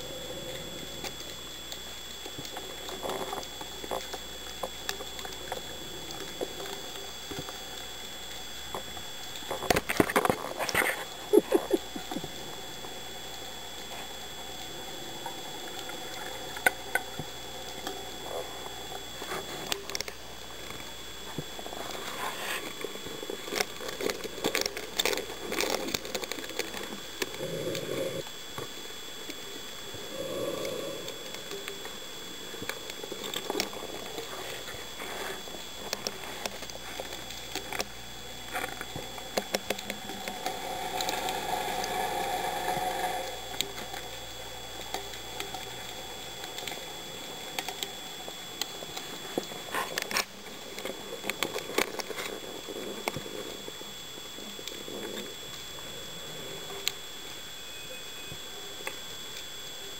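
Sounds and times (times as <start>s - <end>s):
underwater clicks and crackling: 0.2s - 30.0s, 30.6s - 57.6s, 58.3s - 59.9s.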